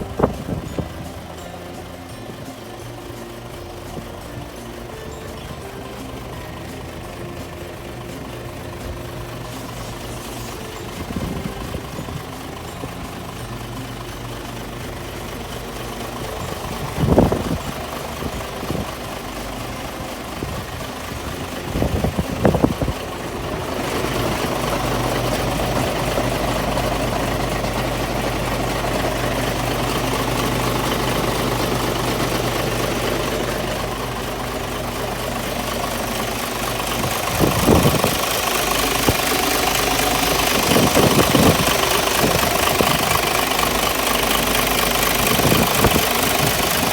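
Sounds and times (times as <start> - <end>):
truck diesel engine idling: 0.0 - 46.9.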